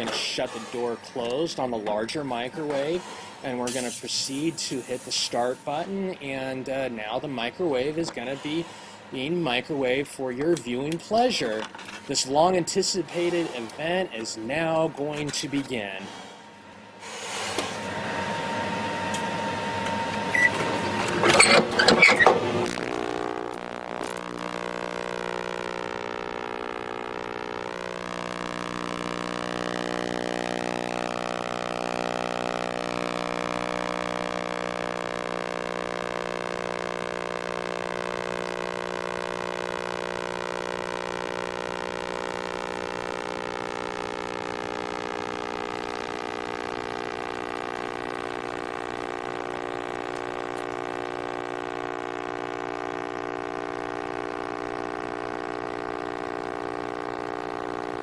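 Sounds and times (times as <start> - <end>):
high whine: 0.0 - 58.0
microwave oven hum: 10.5 - 58.0.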